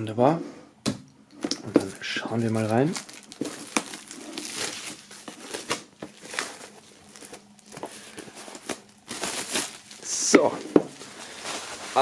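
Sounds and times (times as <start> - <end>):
plastic wrap crinkling: 1.4 - 12.0.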